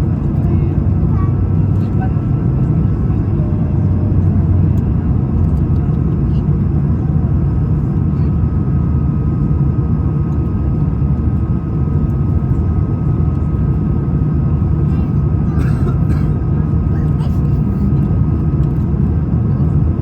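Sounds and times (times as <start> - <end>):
airliner jet engines rumbling: 0.0 - 20.0.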